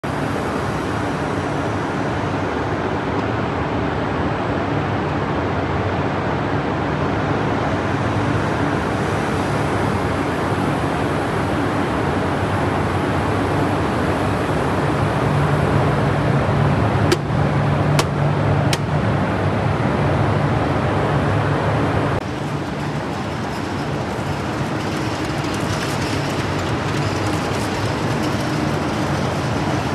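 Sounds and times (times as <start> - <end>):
conveyor machinery humming: 0.0 - 29.9.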